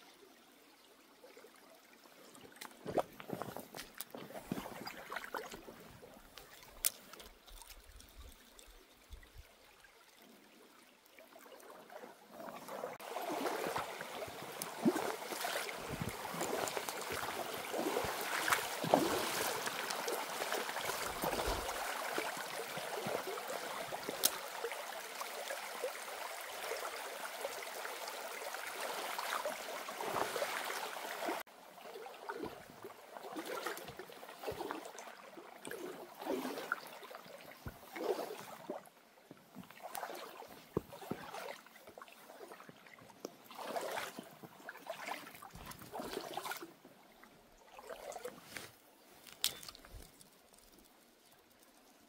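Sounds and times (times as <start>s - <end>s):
stream running over stones: 0.0s - 52.0s.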